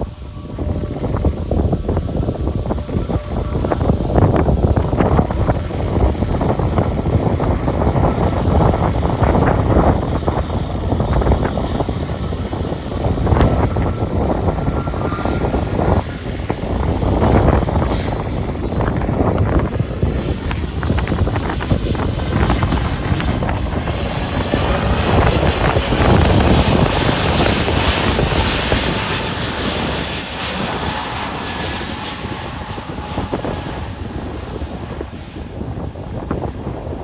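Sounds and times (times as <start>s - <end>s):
jet engines at takeoff: 0.0s - 37.0s
wind buffeting microphone: 0.0s - 37.0s.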